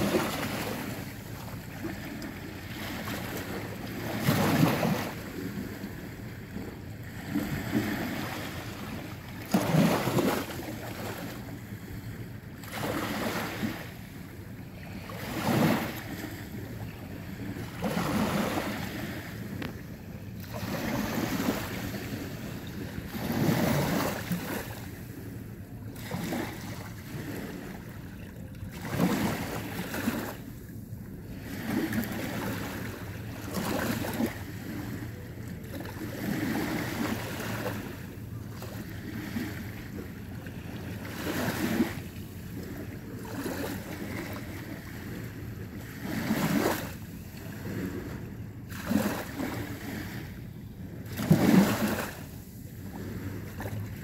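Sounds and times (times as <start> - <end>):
small waves lapping at shore: 0.0 - 54.0.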